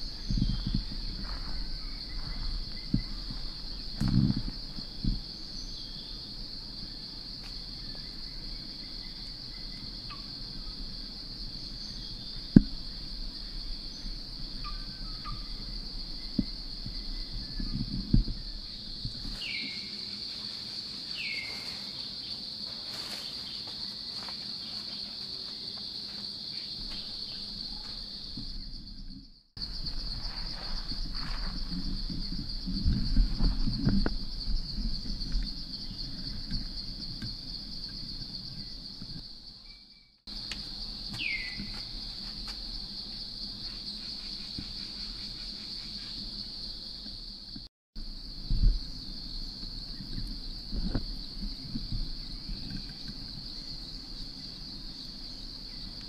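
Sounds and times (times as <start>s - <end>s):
forest insects chorus: 0.0s - 56.0s.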